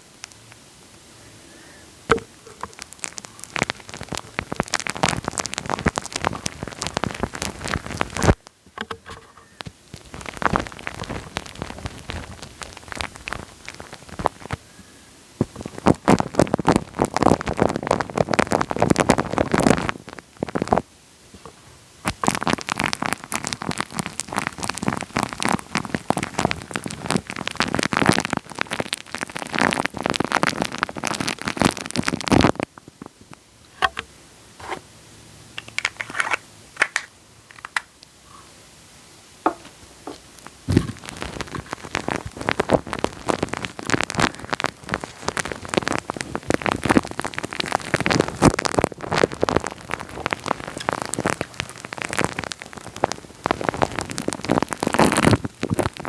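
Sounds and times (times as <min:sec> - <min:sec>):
wet sticky crackling on microphone: 0:02.1 - 0:14.6, 0:15.4 - 0:20.8, 0:21.4 - 0:34.8, 0:35.6 - 0:38.1, 0:39.5 - 0:56.0.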